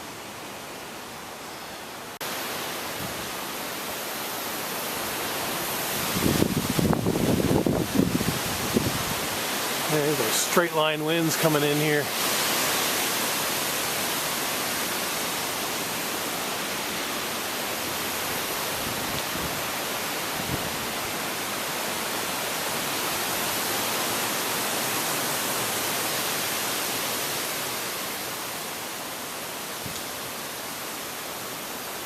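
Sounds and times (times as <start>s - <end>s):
storm winds rushing through trees: 0.0s - 32.0s.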